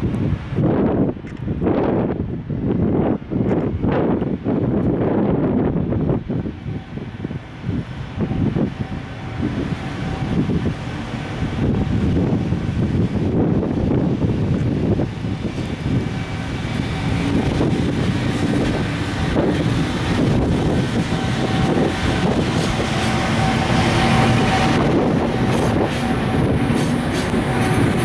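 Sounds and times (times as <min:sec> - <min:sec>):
freight train rumble: 0:00.0 - 0:28.0
wind buffeting microphone: 0:00.0 - 0:28.0.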